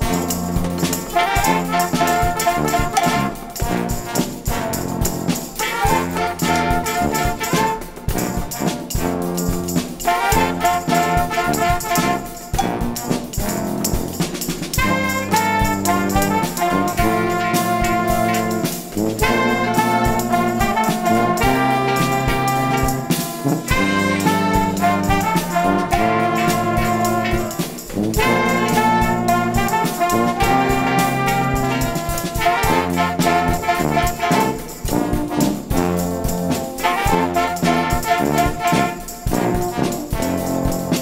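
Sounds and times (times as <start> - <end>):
brass ensemble playing: 0.0 - 41.0.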